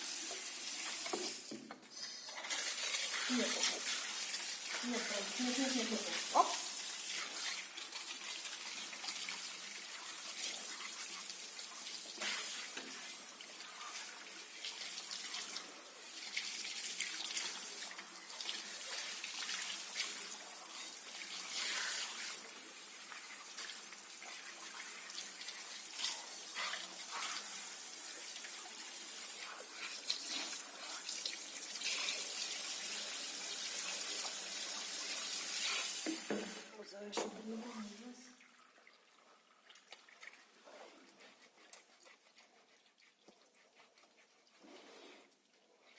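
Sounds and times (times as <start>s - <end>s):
running water splashing: 2.3s - 45.9s.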